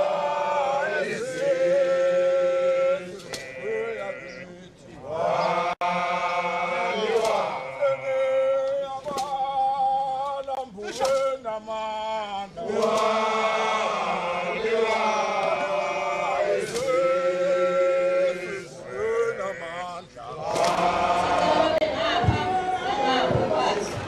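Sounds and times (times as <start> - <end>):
men singing a chant: 0.0 - 24.0.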